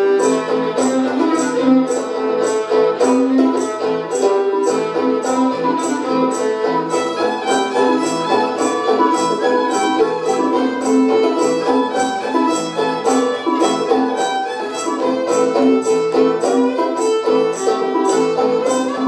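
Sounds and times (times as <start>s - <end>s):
banjo picking rhythm: 0.0s - 19.0s
fiddle melody: 0.0s - 19.0s.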